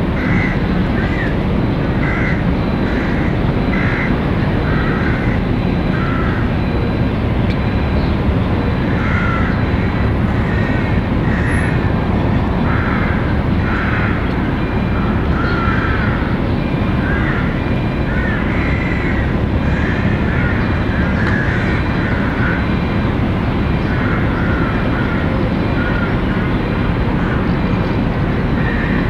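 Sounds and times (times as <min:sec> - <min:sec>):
low street rumble: 0:00.0 - 0:29.0.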